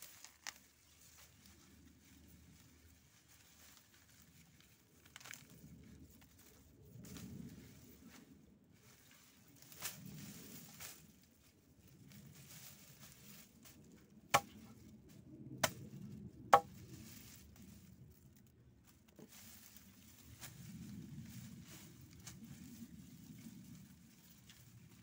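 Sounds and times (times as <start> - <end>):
lemongrass stalks rustling: 0.0 - 14.8, 16.6 - 25.0.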